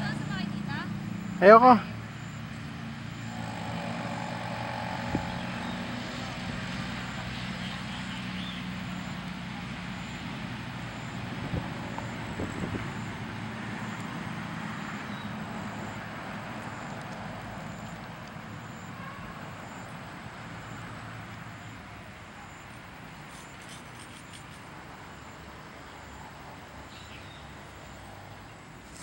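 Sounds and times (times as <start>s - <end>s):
engine humming: 0.0s - 29.0s
traffic noise: 0.0s - 29.0s.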